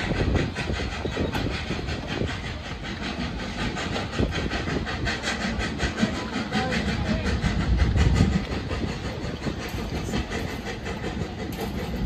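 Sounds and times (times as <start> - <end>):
steam locomotive exhaust beats: 0.0 - 12.0.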